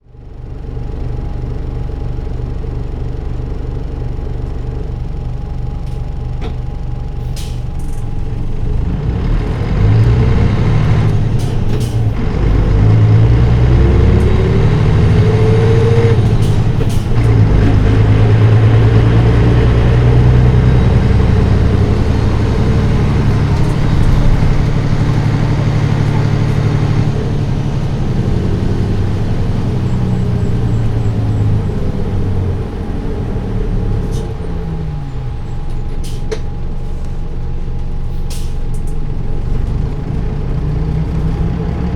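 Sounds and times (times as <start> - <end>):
bus diesel engine pulling hard: 0.0 - 41.9.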